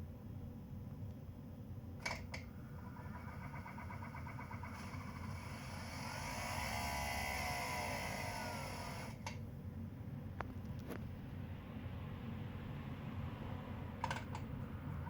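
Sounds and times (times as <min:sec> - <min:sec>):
air conditioning whine and hiss: 0:00.0 - 0:15.0
steady low hum: 0:00.0 - 0:15.0.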